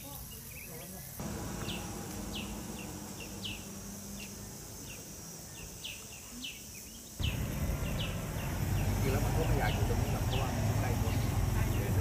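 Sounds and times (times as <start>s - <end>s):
steady outdoor hum: 0.0s - 12.0s.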